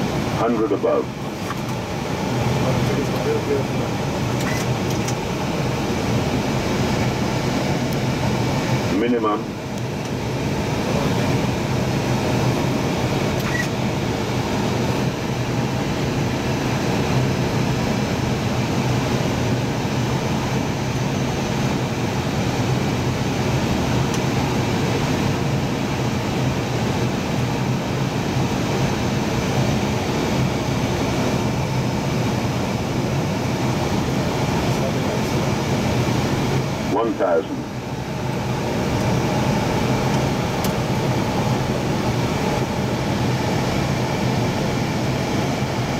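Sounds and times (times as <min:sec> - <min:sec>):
airflow rushing in cockpit: 0:00.0 - 0:45.9
constant low hum: 0:00.0 - 0:45.9.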